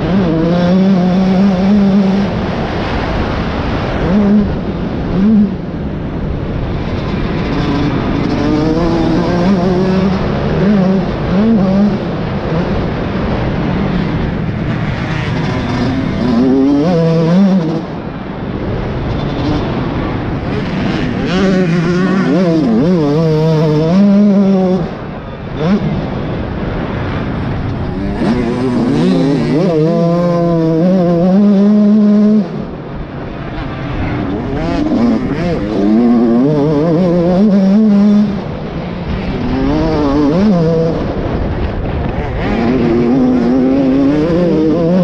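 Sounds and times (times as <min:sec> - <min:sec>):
motocross bike engine revving: 0:00.0 - 0:45.0.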